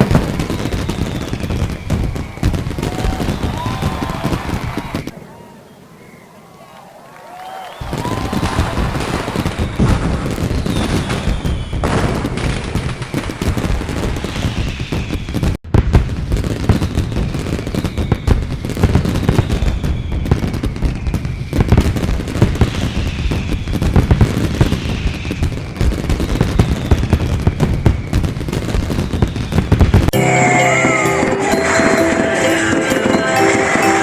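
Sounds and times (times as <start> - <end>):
falling firework whistle: 0.0 - 34.0
fireworks bangs and crackling: 0.0 - 34.0.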